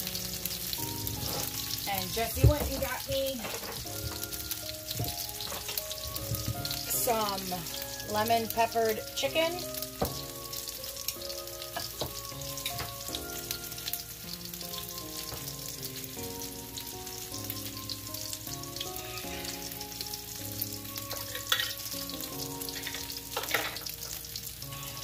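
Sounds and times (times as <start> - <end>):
food sizzling in hot oil: 0.0 - 25.0
soft background music: 0.0 - 25.0.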